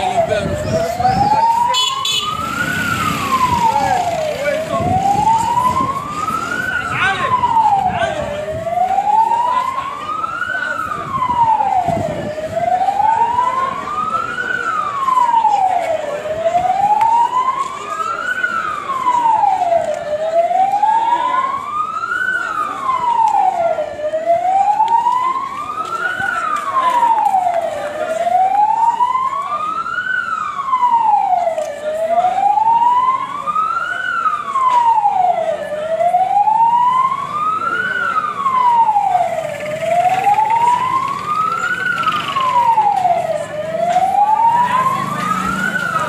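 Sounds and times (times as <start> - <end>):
emergency vehicle siren wailing: 0.0 - 46.0.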